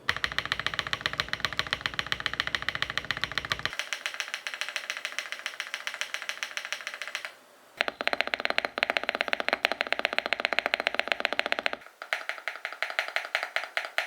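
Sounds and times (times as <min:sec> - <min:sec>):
fast mechanical keyboard typing: 0:00.0 - 0:14.0.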